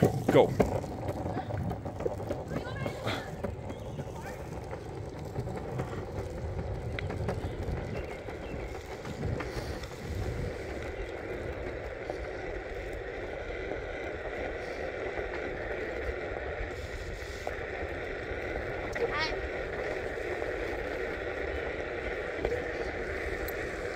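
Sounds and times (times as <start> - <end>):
skateboard clicks over joints: 0.0 - 23.9
skateboard wheels rolling on concrete: 0.0 - 23.9
wind on microphone: 0.8 - 23.9.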